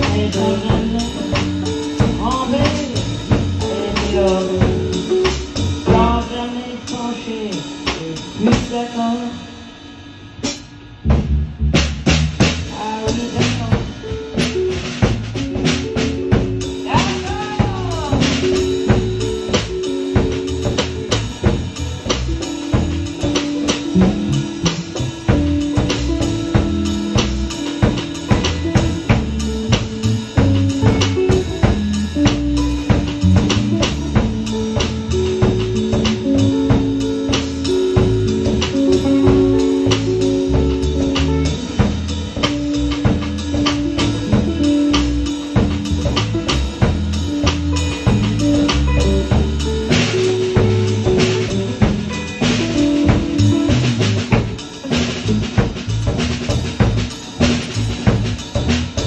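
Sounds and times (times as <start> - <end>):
band playing: 0.0 - 59.0
drum kit steady beat: 0.0 - 59.0.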